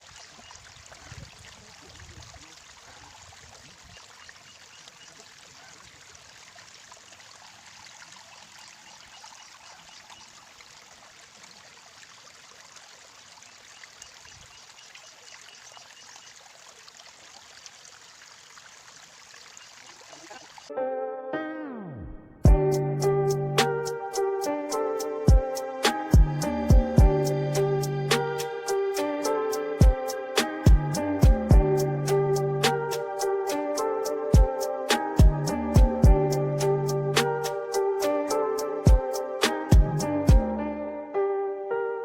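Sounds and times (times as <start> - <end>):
water trickling: 0.0 - 20.8, 22.5 - 40.8.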